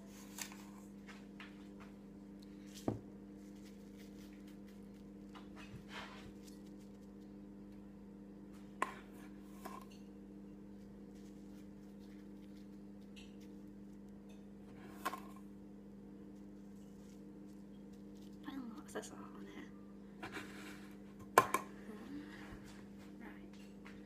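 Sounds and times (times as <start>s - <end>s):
low hum: 0.0s - 24.0s
soft rustle of sprinkling: 0.1s - 19.5s.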